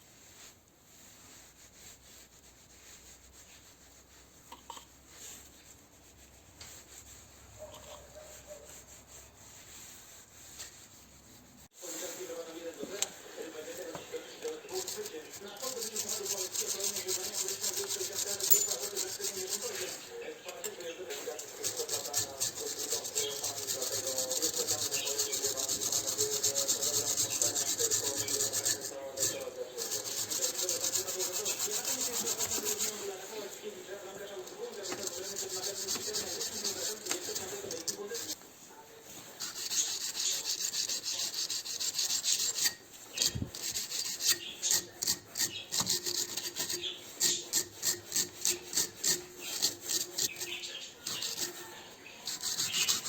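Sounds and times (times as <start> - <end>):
hand sanding or filing: 0.2 - 38.4, 39.2 - 53.0.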